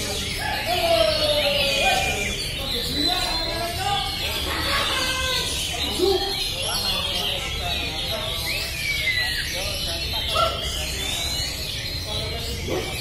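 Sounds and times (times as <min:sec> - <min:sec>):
many birds singing: 0:00.0 - 0:13.0
people's voices: 0:00.0 - 0:13.0.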